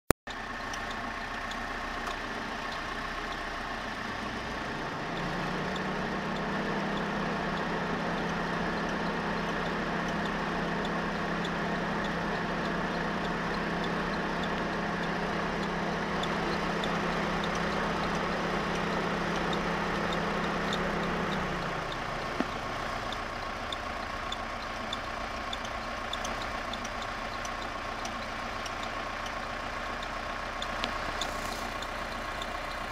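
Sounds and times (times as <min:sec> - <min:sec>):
car engine running: 0:00.3 - 0:32.9
faint high ticks: 0:00.3 - 0:32.9.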